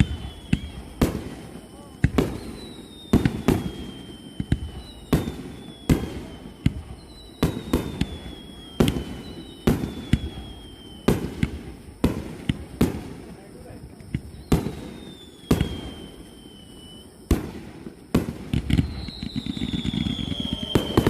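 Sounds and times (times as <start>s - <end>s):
falling firework whistles: 0.0s - 21.0s
firework shells bursting: 0.0s - 21.0s.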